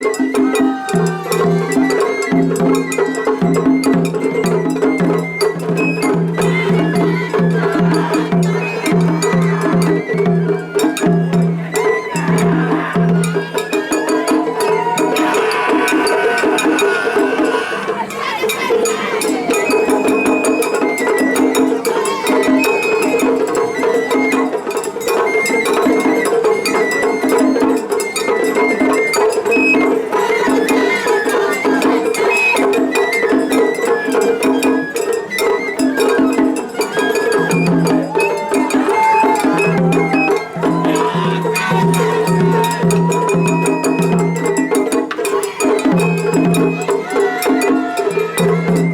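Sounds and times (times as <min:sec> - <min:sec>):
drums beating: 0:00.0 - 0:48.9
shrill bamboo flute: 0:00.0 - 0:48.9.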